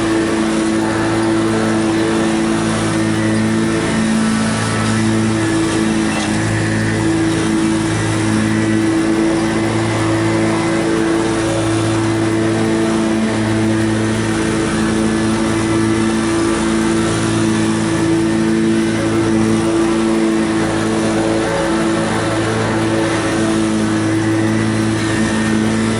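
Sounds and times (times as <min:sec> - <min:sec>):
lawn mower engine running: 0:00.0 - 0:25.9.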